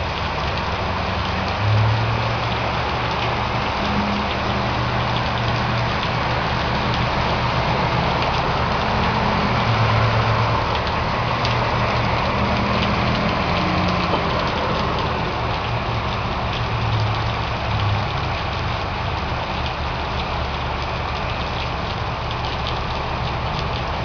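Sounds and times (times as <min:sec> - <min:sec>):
steady rain falling: 0:00.0 - 0:24.0
vehicle engine humming: 0:00.0 - 0:24.0.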